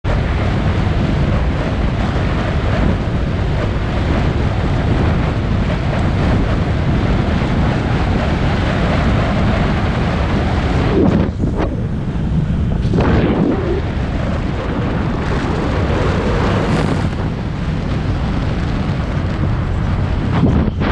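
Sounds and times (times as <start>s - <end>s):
vehicle running and road noise: 0.0s - 20.9s
wind buffeting microphone: 0.0s - 20.9s.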